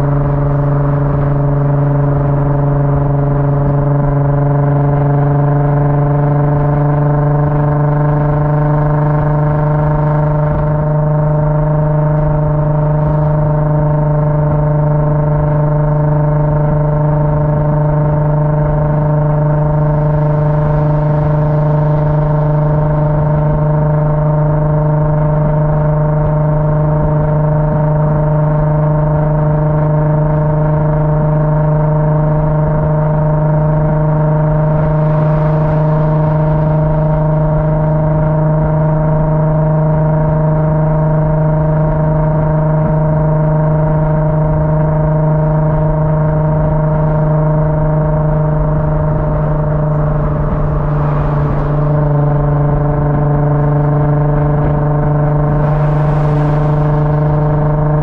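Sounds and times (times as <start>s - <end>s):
car engine running steadily: 0.0s - 58.0s.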